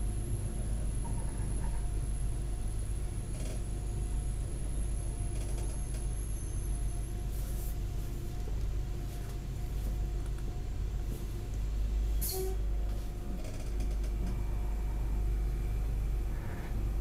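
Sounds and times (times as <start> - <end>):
railcar engine rumble: 0.0 - 17.0.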